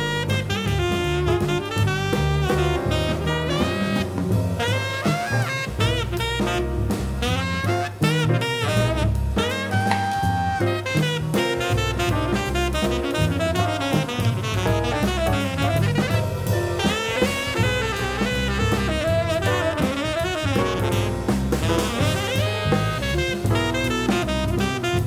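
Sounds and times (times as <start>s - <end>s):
drum kit: 0.0s - 25.0s
saxophone: 0.0s - 25.0s.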